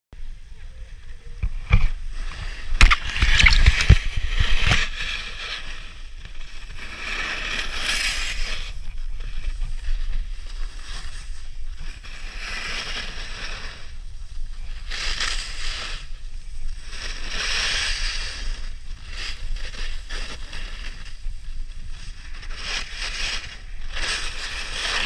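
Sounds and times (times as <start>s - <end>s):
snowboard scraping on snow: 1.5s - 25.0s.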